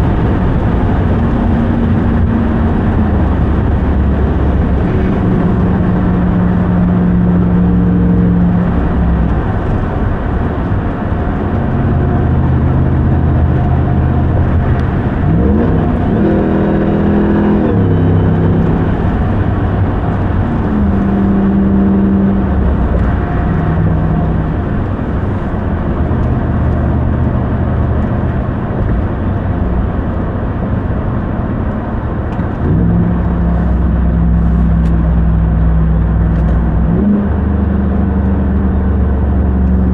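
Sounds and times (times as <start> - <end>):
truck engine running while driving: 0.0 - 39.9.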